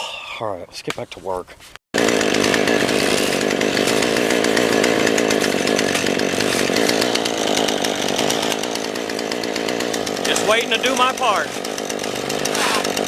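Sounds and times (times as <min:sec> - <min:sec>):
chainsaw cutting wood: 0:02.0 - 0:13.0.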